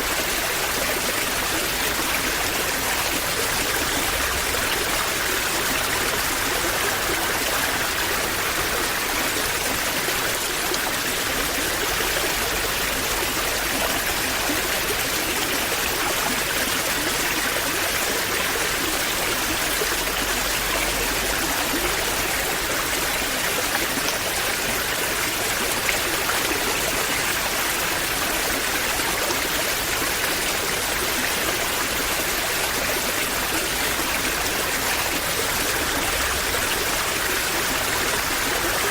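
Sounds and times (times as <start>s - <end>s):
waterfall splashing and rushing: 0.0s - 38.9s.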